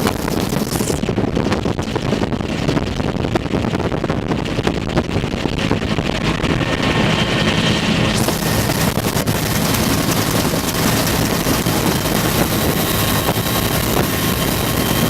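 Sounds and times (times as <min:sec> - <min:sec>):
helicopter turbine and rotor: 0:00.0 - 0:15.0
wind buffeting microphone: 0:00.0 - 0:15.0.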